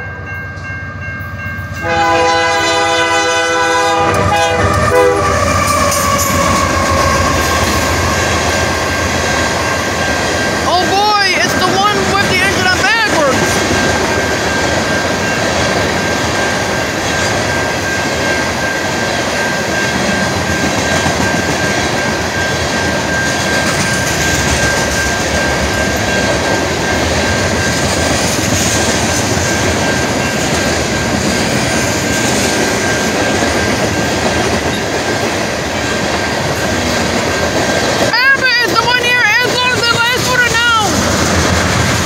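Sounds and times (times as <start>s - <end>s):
train wheels rumbling on rails: 0.6s - 42.0s.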